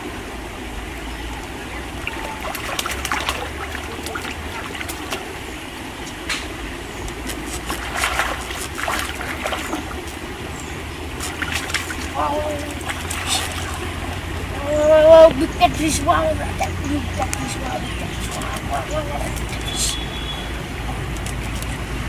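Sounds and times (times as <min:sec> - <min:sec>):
steady low rumble: 0:00.0 - 0:22.0
water splashing and dribbling: 0:00.0 - 0:22.0.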